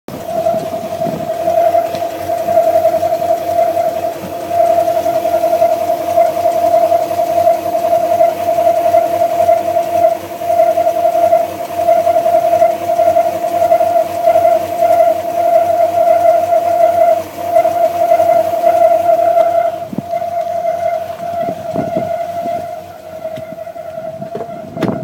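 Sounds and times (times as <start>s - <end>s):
engine whine: 0.0s - 25.0s.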